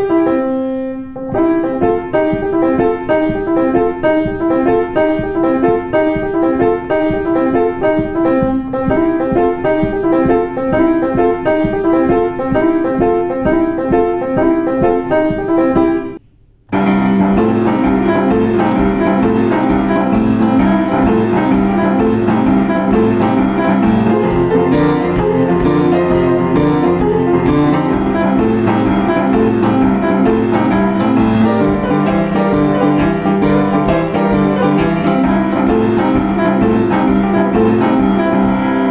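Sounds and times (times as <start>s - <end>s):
boogie-woogie piano: 0.0s - 38.9s.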